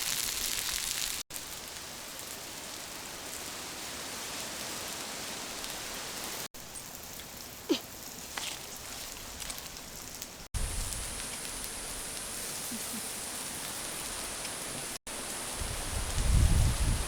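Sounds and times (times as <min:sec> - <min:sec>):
rain-like hiss: 0:00.0 - 0:17.0.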